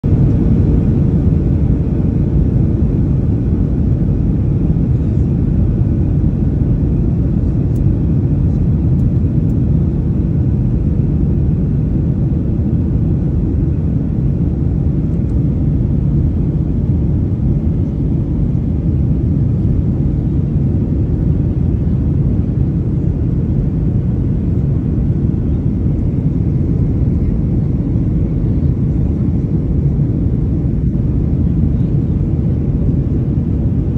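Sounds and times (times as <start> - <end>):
jet cabin engine rumble: 0.0 - 33.9.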